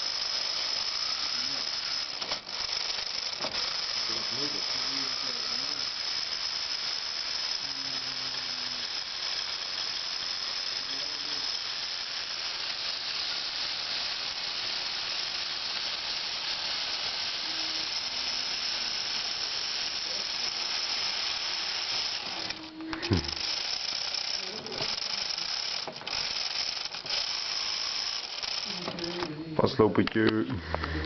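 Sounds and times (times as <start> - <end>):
toy motor high-pitched whine: 0.0 - 29.6
hissing mechanical noise: 0.0 - 31.0.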